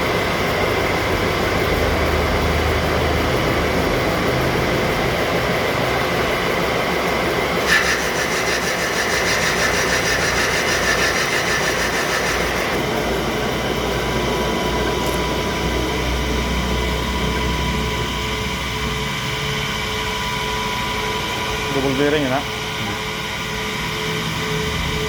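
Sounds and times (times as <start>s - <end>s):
machine running with grinding: 0.0s - 25.0s.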